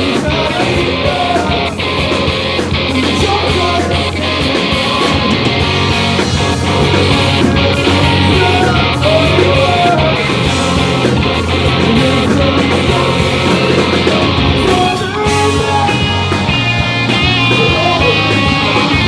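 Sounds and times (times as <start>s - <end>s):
punk band playing live: 0.0s - 19.0s.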